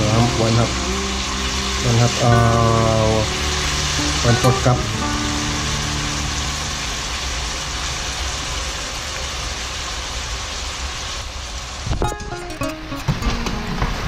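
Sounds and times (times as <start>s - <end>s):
meat sizzling in a pot: 0.0s - 11.8s.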